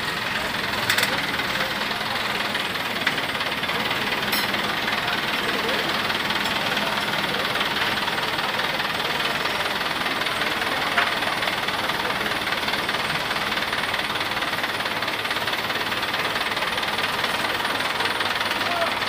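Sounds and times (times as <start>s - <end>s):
crane engine running: 0.0s - 19.0s
rapid knocking clatter: 0.0s - 19.0s.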